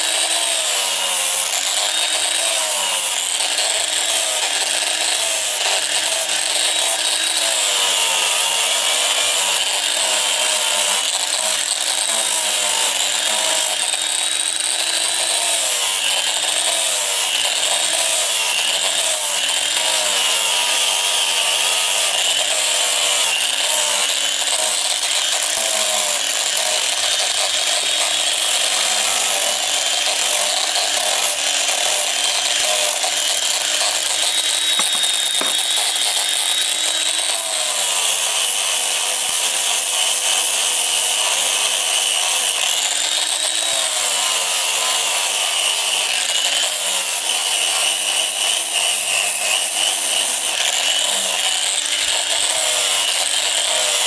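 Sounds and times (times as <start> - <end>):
angle grinder sanding steel: 0.0 - 54.0.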